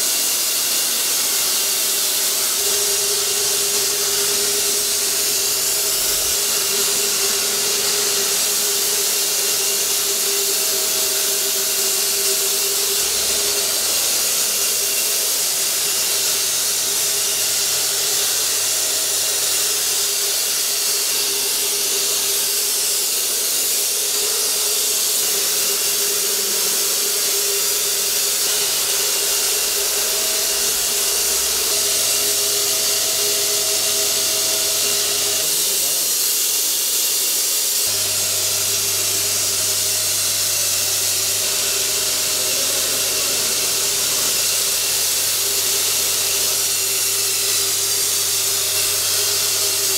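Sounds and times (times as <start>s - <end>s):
continuous spray hiss: 0.0s - 49.9s
fogger motor whine: 0.2s - 49.9s.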